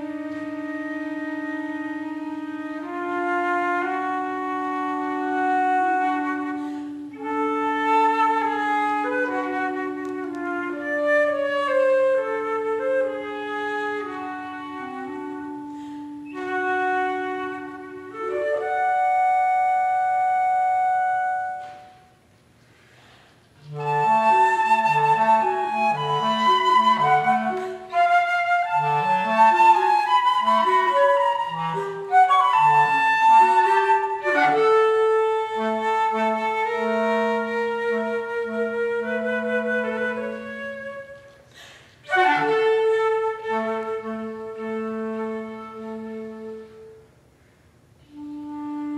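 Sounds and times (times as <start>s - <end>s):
flute: 0.0s - 22.3s, 23.6s - 47.2s, 48.0s - 48.9s
clarinet: 0.0s - 22.4s, 23.5s - 48.9s.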